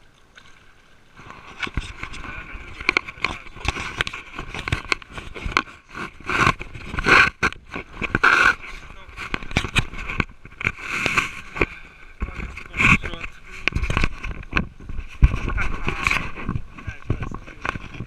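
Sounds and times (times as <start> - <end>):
water splashing and sloshing: 0.0 - 18.0.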